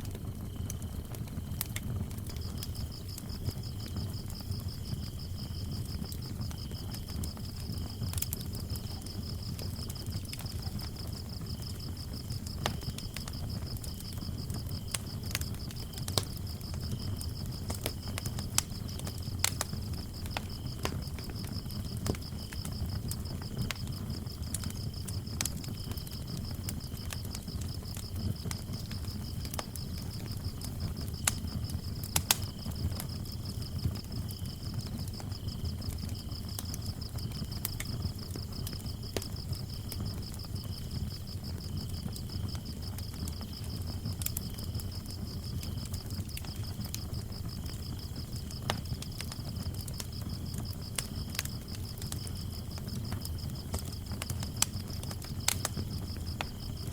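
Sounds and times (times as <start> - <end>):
fire crackling and popping: 0.0 - 56.9
lower cricket chirping: 0.0 - 56.9
crickets trilling: 0.1 - 56.9.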